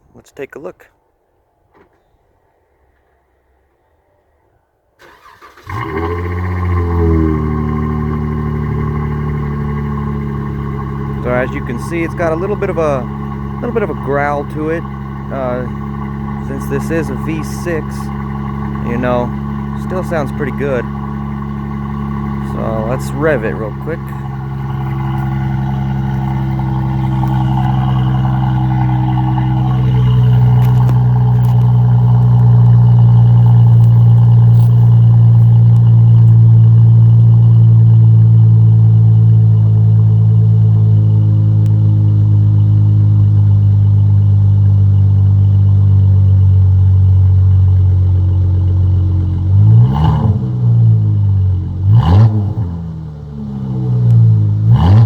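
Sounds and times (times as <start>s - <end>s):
engine revving: 5.0s - 55.0s
car engine running: 5.1s - 55.0s.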